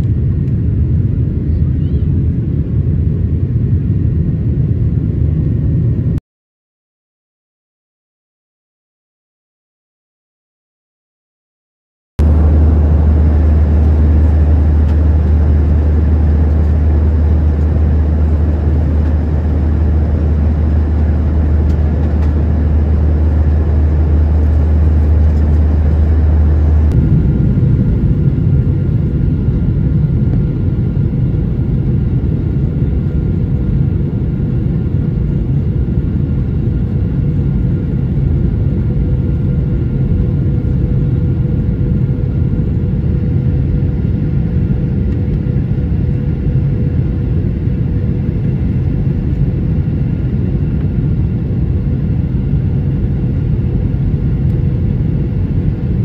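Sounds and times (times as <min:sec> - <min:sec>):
airplane cabin roar: 0:00.0 - 0:06.2, 0:12.2 - 0:56.0
jet engine whine: 0:00.0 - 0:06.2, 0:12.2 - 0:56.0.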